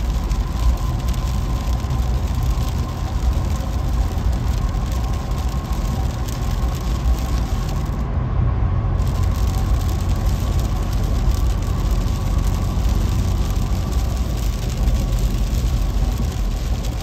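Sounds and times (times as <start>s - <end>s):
hiss of rain and road spray: 0.0s - 8.1s, 8.9s - 17.0s
engine and tyre rumble: 0.0s - 17.0s.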